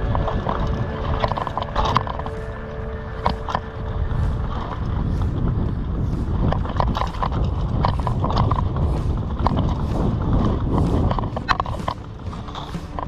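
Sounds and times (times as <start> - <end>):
bike clattering and rattling: 0.0 - 13.0
bike rolling on dirt trail: 0.0 - 13.0.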